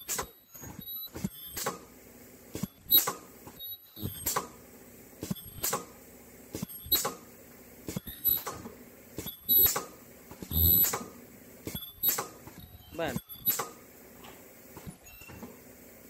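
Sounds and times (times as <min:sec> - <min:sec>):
welding machine clacking and hissing: 0:00.0 - 0:16.0.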